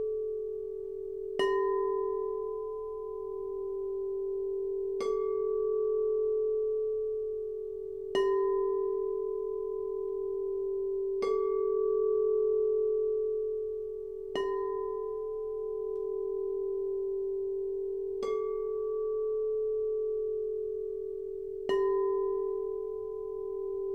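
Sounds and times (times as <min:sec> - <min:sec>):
singing bowl ringing: 0:00.0 - 0:23.9.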